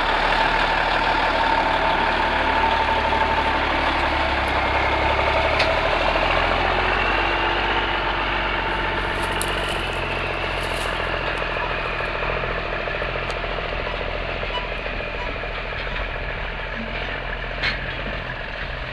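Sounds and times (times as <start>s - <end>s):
diesel truck engine pulling away: 0.0s - 18.9s.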